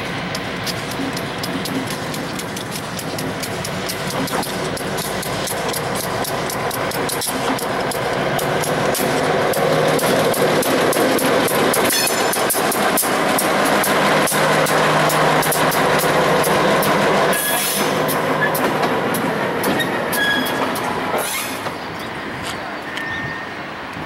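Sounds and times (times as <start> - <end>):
wheels clicking and clanking on rails: 0.0 - 24.0.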